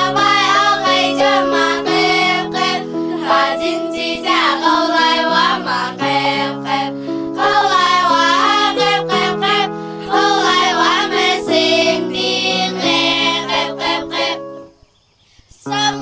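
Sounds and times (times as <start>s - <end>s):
girls' choir singing: 0.0s - 14.7s, 15.6s - 16.0s.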